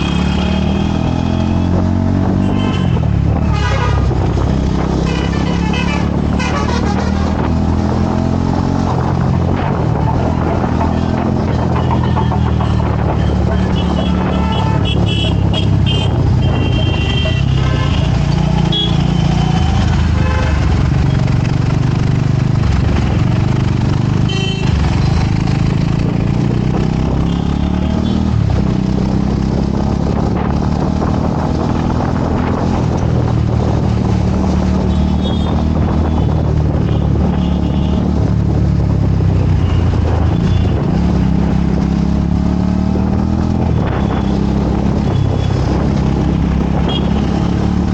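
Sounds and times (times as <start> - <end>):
road noise: 0.0 - 47.9
vehicle engine: 0.0 - 47.9.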